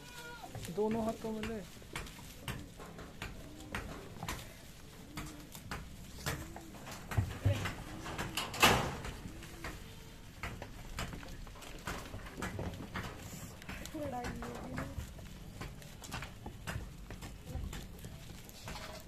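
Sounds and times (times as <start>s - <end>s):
goats munching leaves: 0.0s - 19.0s
leaves rustling and crackling: 0.0s - 19.0s.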